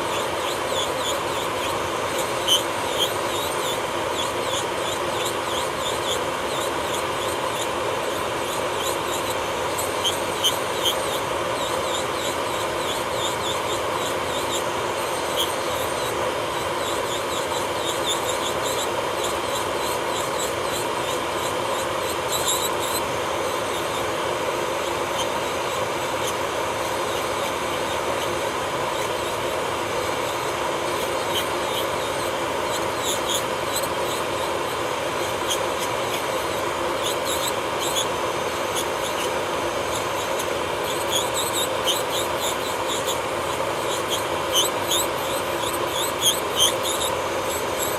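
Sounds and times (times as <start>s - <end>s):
drill bit grinding fingernail: 0.0s - 47.9s
electric nail drill whining: 0.0s - 47.9s.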